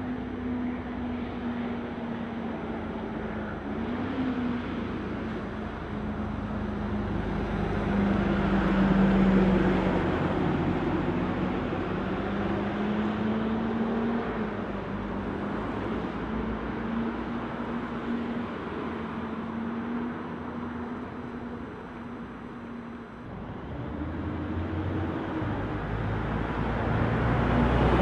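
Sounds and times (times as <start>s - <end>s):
bus engine drone passing: 0.0s - 28.0s.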